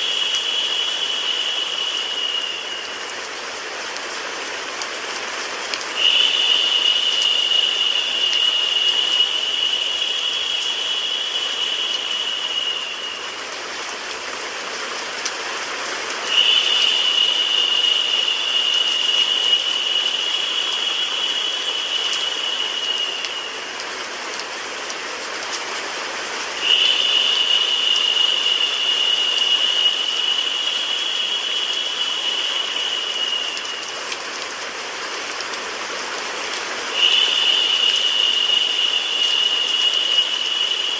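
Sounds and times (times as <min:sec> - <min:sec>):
high-pitched hiss: 0:00.0 - 0:25.4, 0:26.0 - 0:36.0, 0:36.8 - 0:40.9
faint raindrop ticks: 0:00.0 - 0:40.9
rain hiss: 0:00.0 - 0:40.9.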